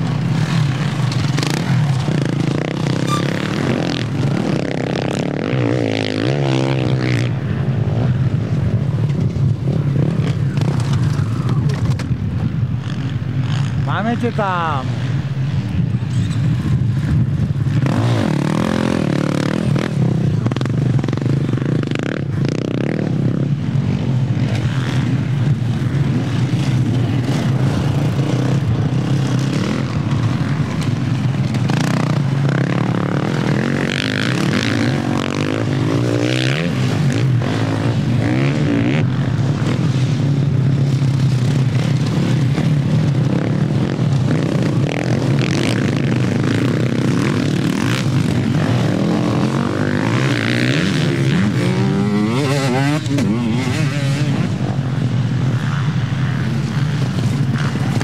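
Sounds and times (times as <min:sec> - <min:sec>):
off-road engines droning: 0:00.0 - 0:58.0.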